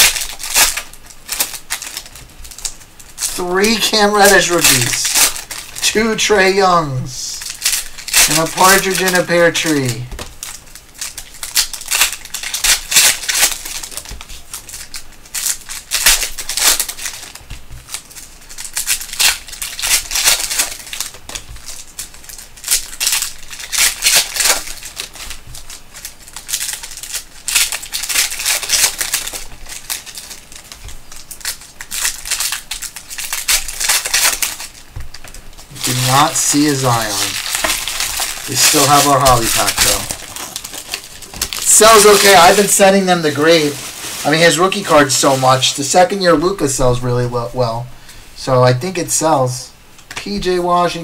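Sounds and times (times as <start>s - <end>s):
cards being handled: 0.0s - 45.5s
foil wrappers crinkling: 0.0s - 48.2s.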